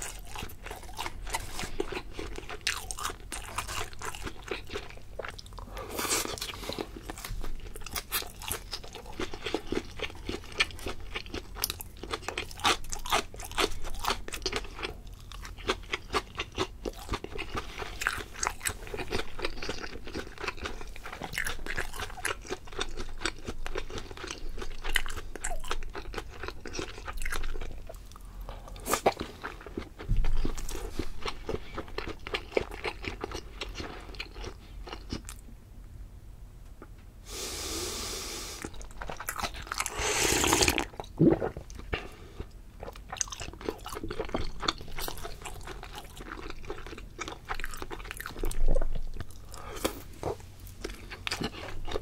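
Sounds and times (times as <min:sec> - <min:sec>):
person chewing crunchy food: 0:00.0 - 0:35.5, 0:36.8 - 0:52.0.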